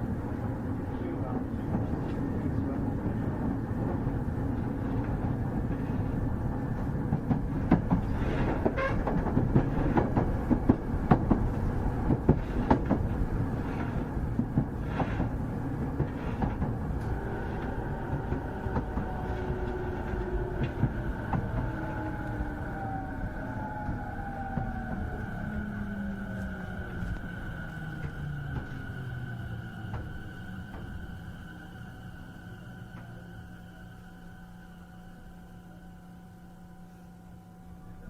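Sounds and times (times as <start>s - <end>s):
train rumble: 0.0s - 38.0s.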